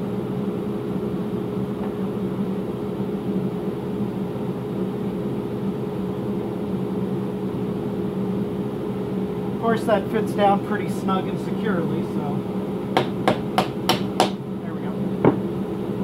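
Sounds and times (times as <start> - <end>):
motor or fan humming: 0.0 - 16.0.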